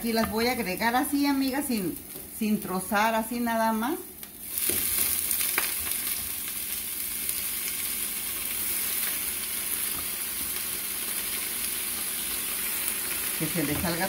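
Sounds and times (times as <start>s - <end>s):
spinach sizzling in a hot pan: 0.0s - 14.0s.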